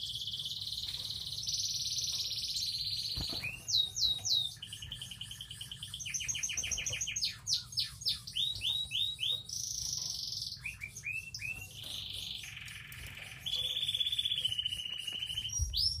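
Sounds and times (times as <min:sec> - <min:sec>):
finch singing: 0:00.0 - 0:16.0.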